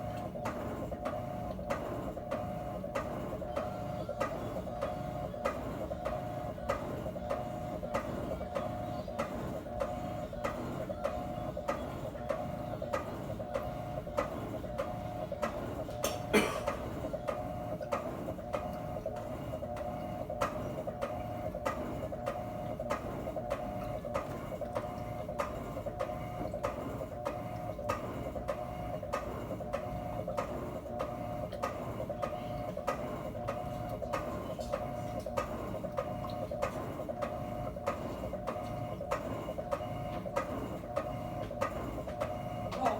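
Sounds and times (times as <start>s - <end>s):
washing machine humming: 0.0s - 42.9s.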